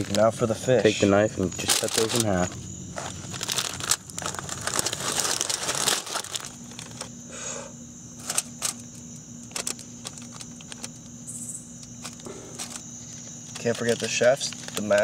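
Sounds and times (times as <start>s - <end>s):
aluminium foil crinkling: 0.0s - 0.4s, 1.4s - 7.1s, 8.2s - 15.0s.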